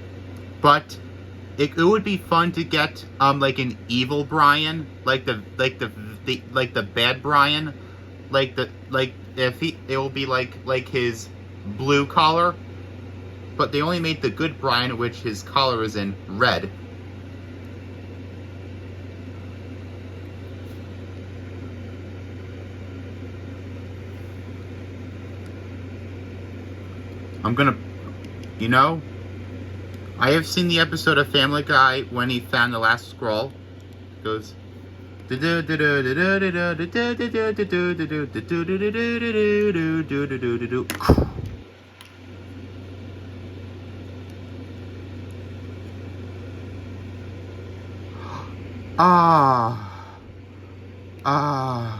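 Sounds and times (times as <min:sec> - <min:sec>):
machine hum with hiss: 0:00.0 - 0:51.9.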